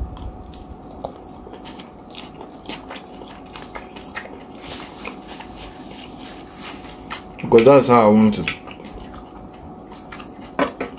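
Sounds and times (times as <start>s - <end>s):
person chewing food: 0.0s - 10.9s.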